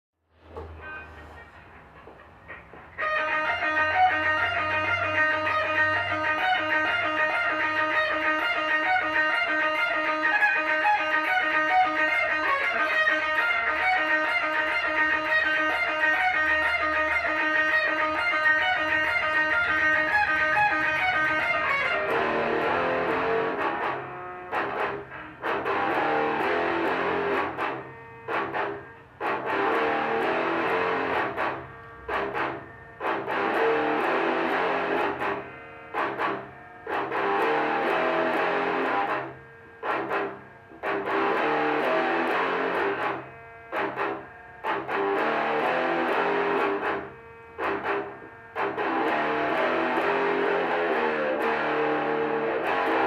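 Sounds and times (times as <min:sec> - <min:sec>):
electric guitar music: 0:00.3 - 0:53.0.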